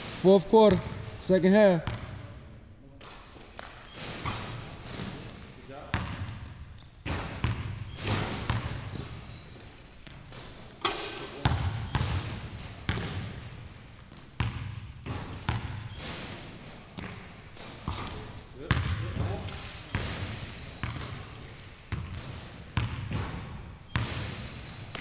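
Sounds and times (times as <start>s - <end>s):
basketball bouncing on wooden floor: 1.8s - 2.2s, 3.0s - 10.5s, 11.4s - 25.0s.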